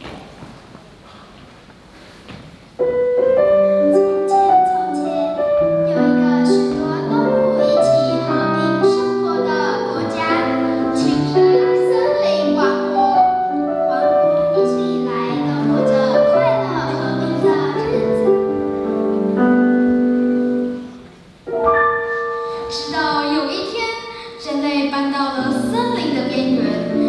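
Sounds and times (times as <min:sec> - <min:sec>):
faint room noise: 0:00.0 - 0:27.0.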